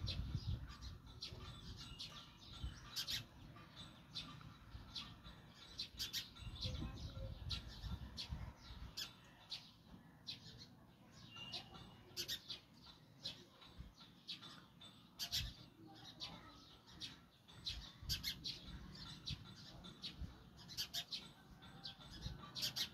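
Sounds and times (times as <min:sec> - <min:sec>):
sparrows chirping: 0:00.0 - 0:22.9.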